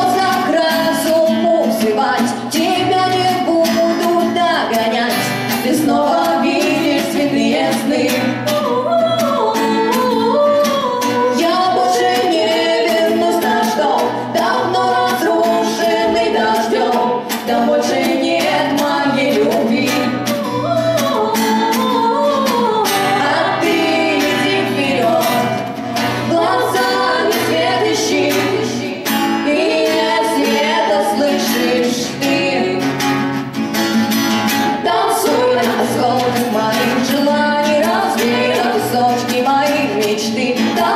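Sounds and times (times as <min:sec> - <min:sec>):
women singing: 0:00.0 - 0:33.4, 0:34.5 - 0:40.9
strummed acoustic guitar: 0:00.0 - 0:40.9.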